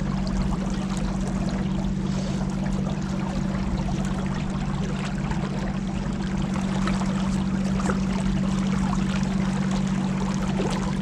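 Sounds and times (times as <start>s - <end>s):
motorboat engine running: 0.0s - 11.0s
water rushing along hull: 0.0s - 11.0s.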